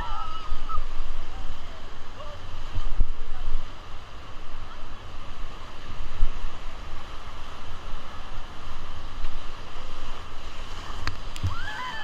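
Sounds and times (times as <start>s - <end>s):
rushing whitewater: 0.0s - 12.0s.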